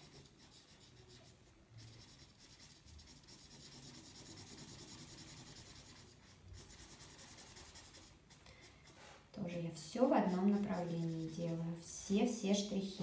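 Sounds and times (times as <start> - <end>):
marker scratching on paper: 0.0 - 12.1.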